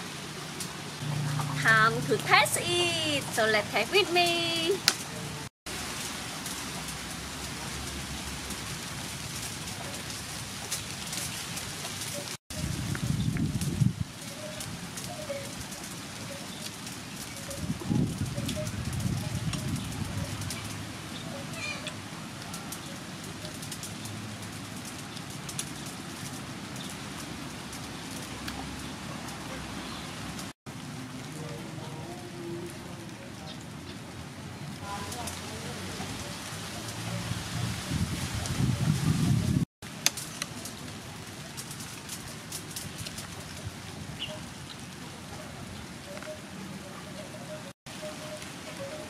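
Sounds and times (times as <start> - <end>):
outdoor background hiss: 0.0 - 49.0.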